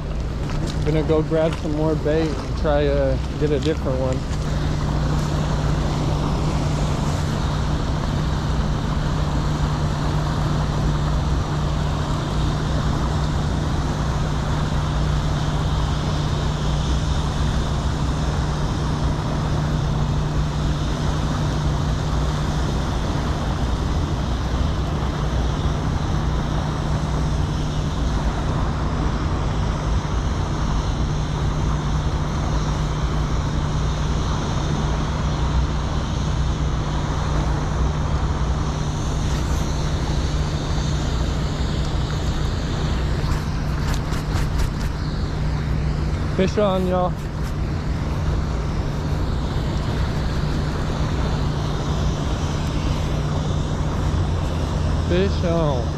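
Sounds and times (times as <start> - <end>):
low hum: 0.0 - 55.9.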